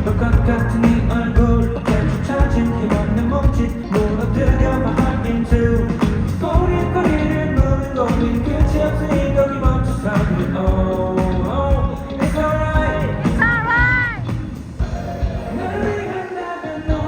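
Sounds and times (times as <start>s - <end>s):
drums keeping steady beat: 0.0s - 15.9s
live pop-rock music: 0.0s - 17.0s.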